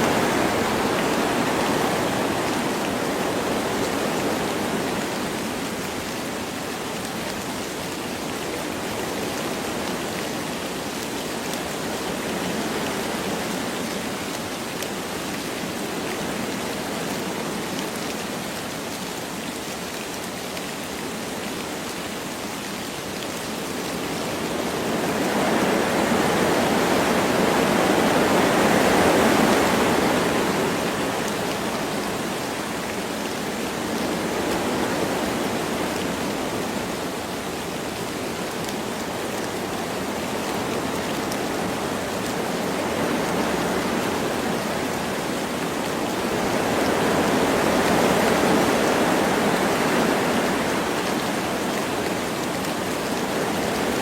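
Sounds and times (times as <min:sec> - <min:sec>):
light rain: 0:00.0 - 0:54.0
wind through trees: 0:00.0 - 0:54.0.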